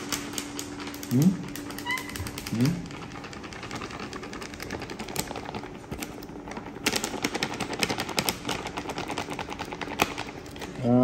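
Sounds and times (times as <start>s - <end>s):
plastic bag crackling: 0.0s - 10.9s.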